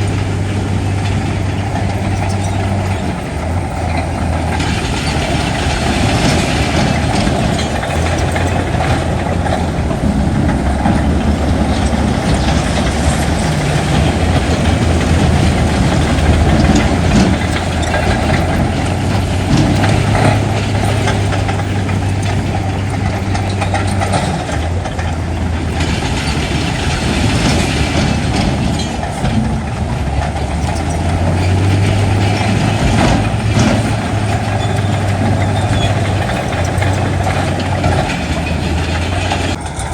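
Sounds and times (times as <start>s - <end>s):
heavy diesel machinery running: 0.0s - 39.9s
metal clanks and rattles: 0.0s - 39.9s.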